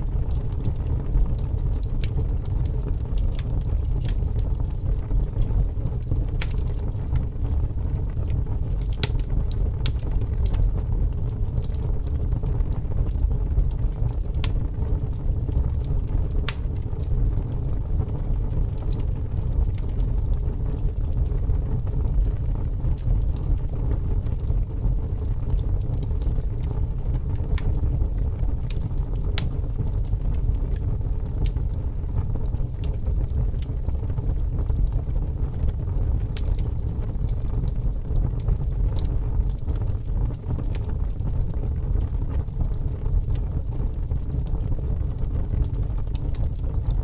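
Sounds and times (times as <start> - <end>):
fire burning with crackles: 0.0 - 47.0.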